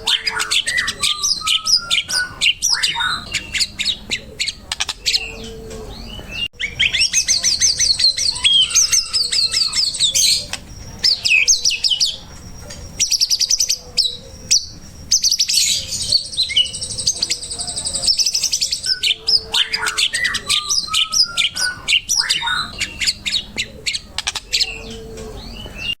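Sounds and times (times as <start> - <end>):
bird singing trills and whistles: 0.0 - 26.0.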